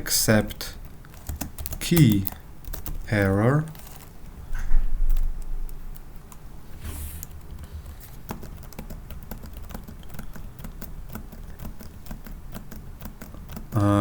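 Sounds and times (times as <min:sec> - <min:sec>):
typing on computer keyboard: 0:00.3 - 0:06.5, 0:07.2 - 0:14.0.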